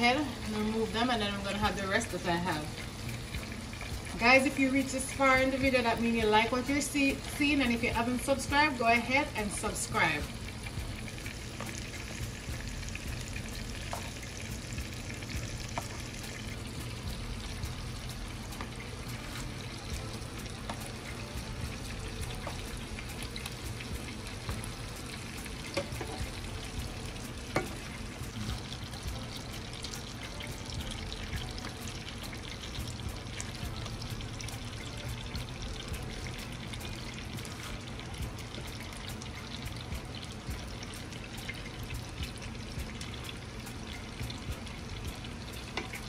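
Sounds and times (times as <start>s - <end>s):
shrimp sizzling in a frying pan: 0.0s - 46.0s.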